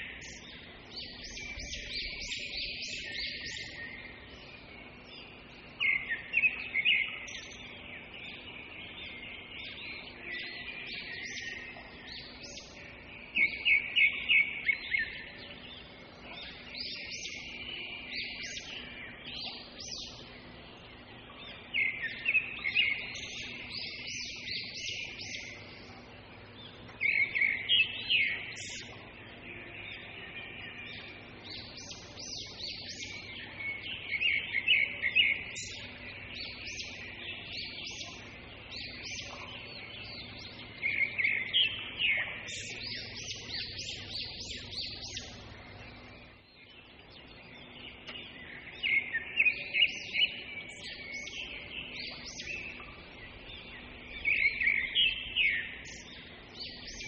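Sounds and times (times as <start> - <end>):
bird singing high chirps: 0.0 - 57.0
faint low hum: 0.0 - 57.0.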